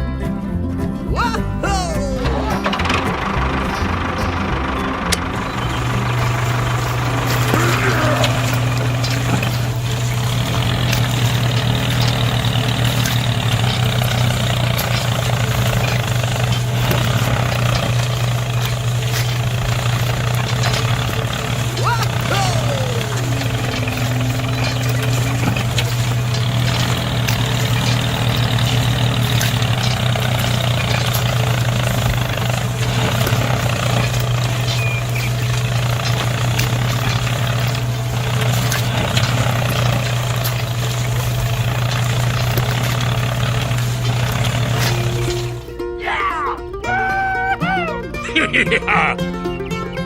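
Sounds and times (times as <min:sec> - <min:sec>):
even whirring: 0:01.7 - 0:46.0
motor running with low hum: 0:02.4 - 0:45.8.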